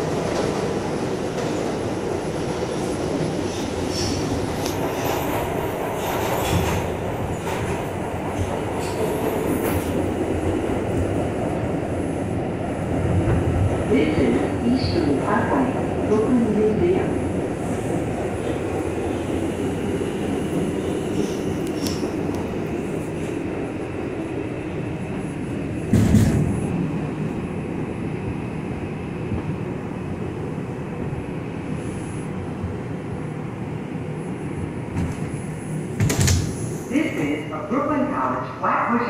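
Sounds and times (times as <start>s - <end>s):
subway train rumbling in tunnel: 0.0s - 39.0s.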